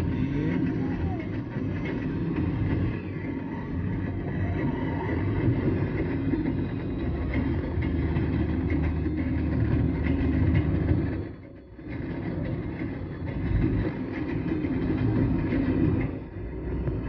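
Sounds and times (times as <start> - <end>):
car tyres and engine rumble: 0.0 - 17.0.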